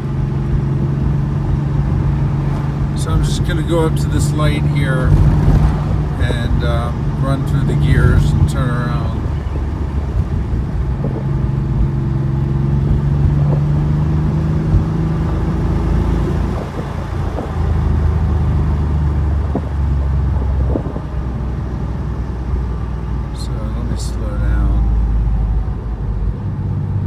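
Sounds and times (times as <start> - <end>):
car engine accelerating through gears: 0.0 - 27.0.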